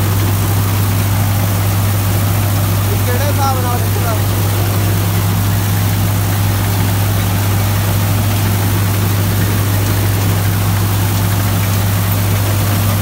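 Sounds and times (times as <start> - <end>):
straw chopper rotor whirring: 0.0 - 13.0
tractor diesel engine under load: 0.0 - 13.0.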